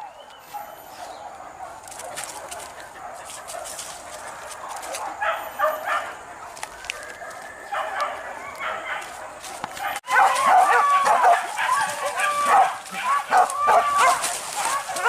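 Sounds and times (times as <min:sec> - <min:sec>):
dogs yelping barks: 0:00.0 - 0:15.0.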